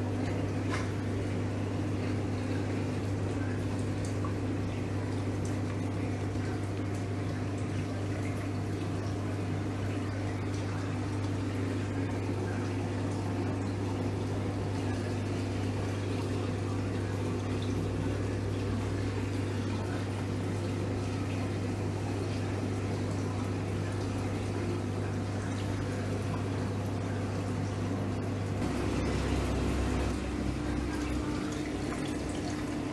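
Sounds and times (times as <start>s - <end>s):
aquarium pump hum: 0.0s - 32.9s
circulating water: 0.0s - 32.9s.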